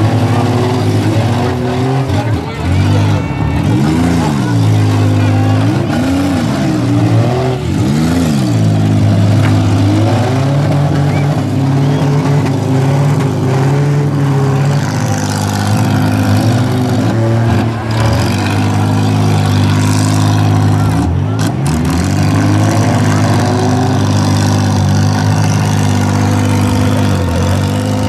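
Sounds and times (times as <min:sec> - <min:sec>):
van engines revving hard: 0:00.0 - 0:28.0.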